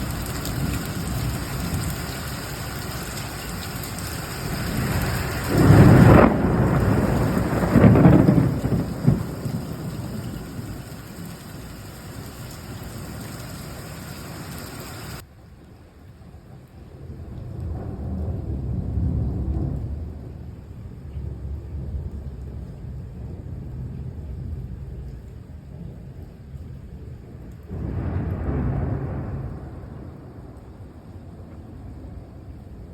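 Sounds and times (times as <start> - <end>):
loud thunderclaps: 0.0 - 15.2, 17.2 - 24.9, 27.0 - 32.9
rolling rumble of thunder: 0.0 - 15.2, 16.4 - 32.9
heavy rain: 0.0 - 32.9.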